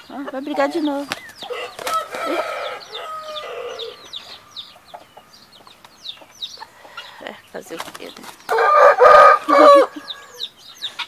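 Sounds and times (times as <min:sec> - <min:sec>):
chicks peeping: 0:00.0 - 0:11.0
hens squawking and clucking: 0:00.0 - 0:11.0.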